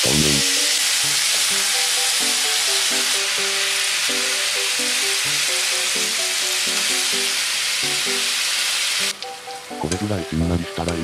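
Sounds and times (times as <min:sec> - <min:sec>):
background music: 0:00.0 - 0:11.0
food sizzling in frying pan: 0:00.0 - 0:11.0.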